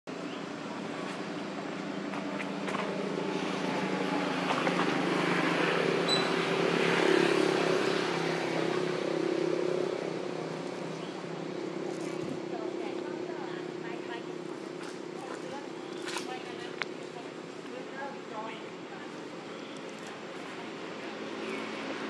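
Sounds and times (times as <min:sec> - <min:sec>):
vehicle engine passing: 0:00.6 - 0:22.0.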